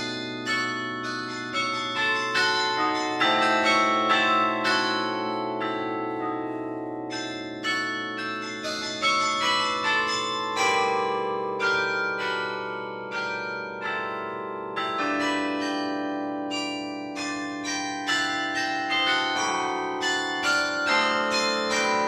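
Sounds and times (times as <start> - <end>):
carillon bells playing a melody: 0.0 - 22.0.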